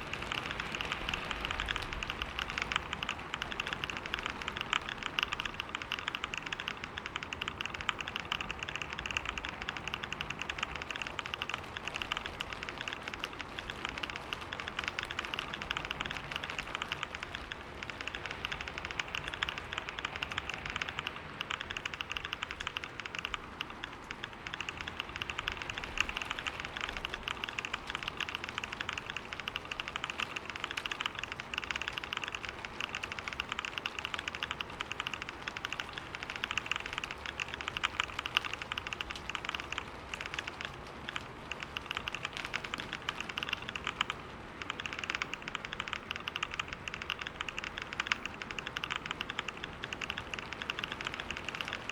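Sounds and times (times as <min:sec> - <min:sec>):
fast typing on keyboard: 0:00.0 - 0:51.9.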